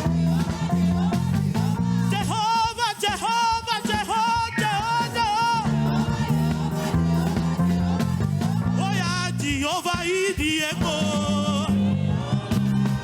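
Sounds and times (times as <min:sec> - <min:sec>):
gospel band music: 0:00.0 - 0:13.0.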